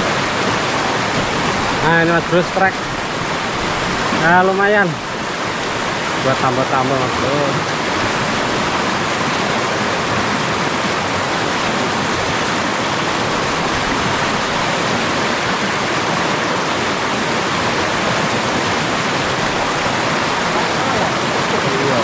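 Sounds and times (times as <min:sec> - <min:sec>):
rushing river water: 0:00.0 - 0:22.0.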